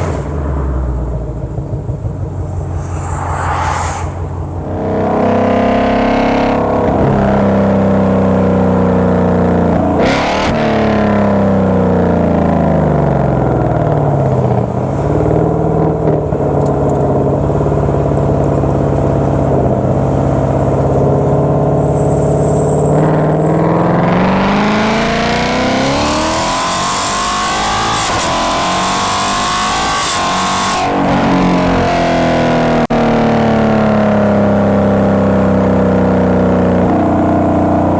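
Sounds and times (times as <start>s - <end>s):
car exhaust while driving: 0.0s - 37.9s.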